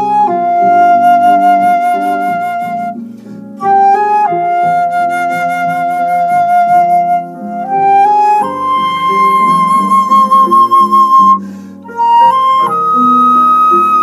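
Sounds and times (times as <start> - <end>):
flute melody: 0.0 - 14.0
low accompaniment notes: 0.0 - 14.0.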